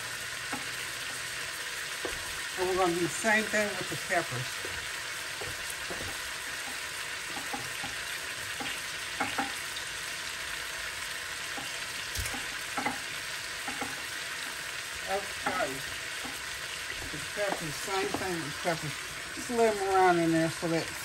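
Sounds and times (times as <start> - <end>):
meat frying in oil: 0.0 - 21.0
oil popping: 0.4 - 19.4.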